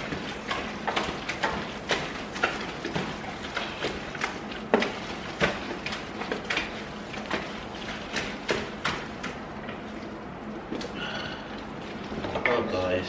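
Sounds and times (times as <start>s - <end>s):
slime being stirred with clicks: 0.0s - 11.0s.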